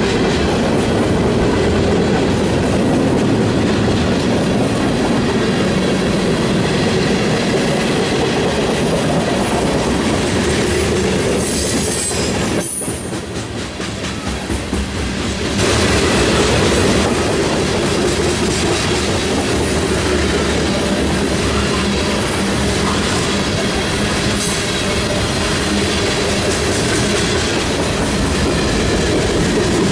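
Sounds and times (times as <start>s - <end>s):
train wheels clacking over rail joints: 0.0s - 29.9s.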